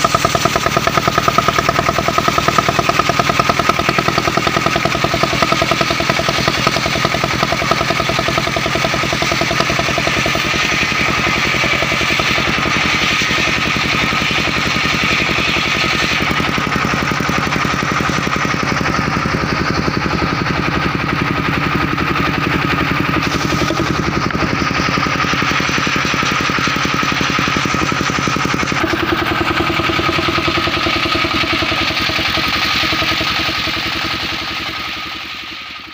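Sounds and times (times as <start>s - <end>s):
engine pulsing rapidly: 0.0s - 35.9s
saw blade high whine: 0.0s - 35.9s.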